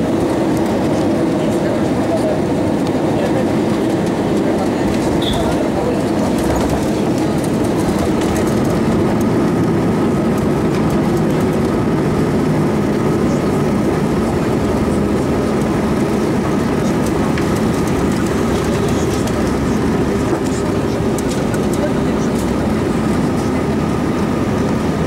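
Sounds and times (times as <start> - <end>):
airframe and wheels rumbling: 0.0 - 25.0
jet engines idling hum: 0.0 - 25.0.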